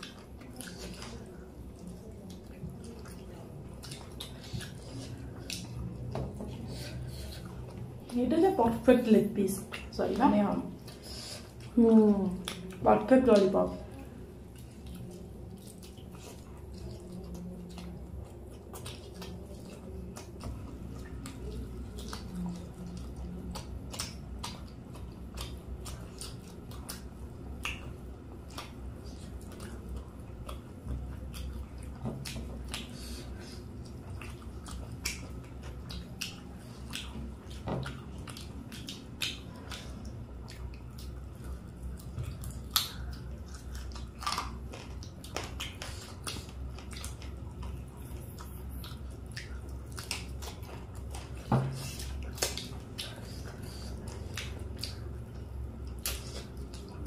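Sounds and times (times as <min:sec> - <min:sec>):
people chewing and biting: 0:00.0 - 0:08.2, 0:10.7 - 0:57.0
steady low hum: 0:00.0 - 0:57.0.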